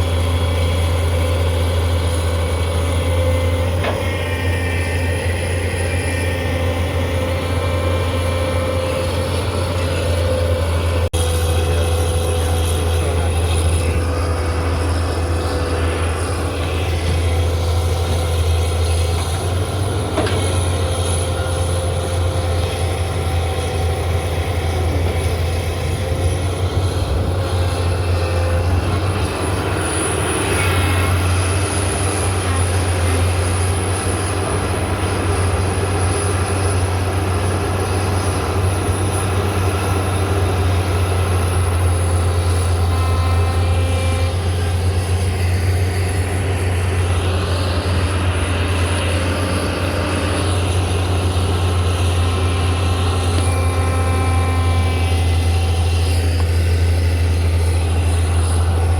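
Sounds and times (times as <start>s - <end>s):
diesel engine droning: 0.0s - 58.9s.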